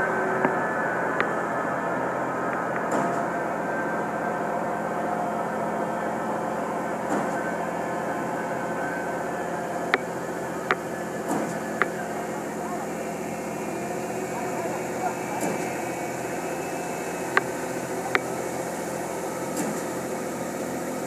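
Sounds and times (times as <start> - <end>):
construction machinery running: 0.0 - 21.0.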